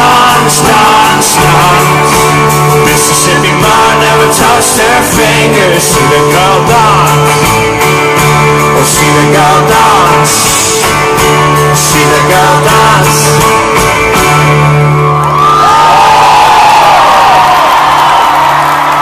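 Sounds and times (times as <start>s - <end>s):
sustained bass notes: 0.0s - 15.4s
live rock band playing: 0.0s - 15.8s
electric guitar: 0.0s - 19.0s.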